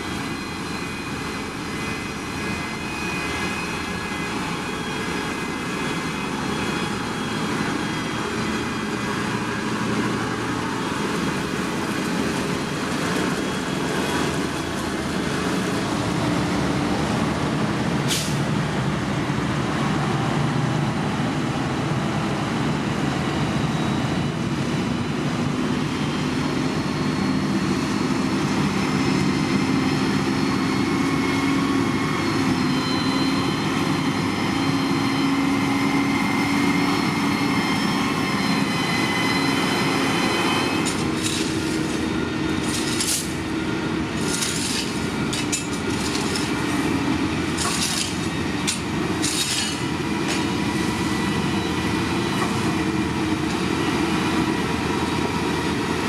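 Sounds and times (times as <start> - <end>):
diesel engines of heavy machinery: 0.0 - 56.0.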